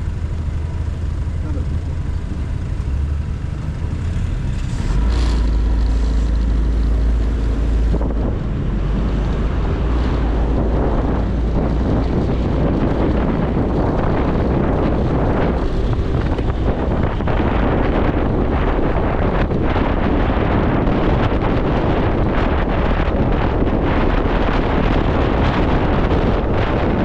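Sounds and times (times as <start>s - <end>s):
motorcycle engine rumbling: 0.0s - 27.0s
wind buffeting microphone: 0.0s - 27.0s.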